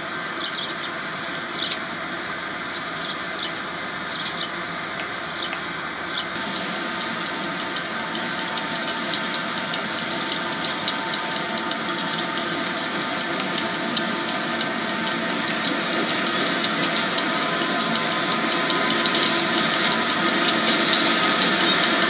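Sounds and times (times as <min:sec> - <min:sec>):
locomotive engine running: 0:00.0 - 0:22.0.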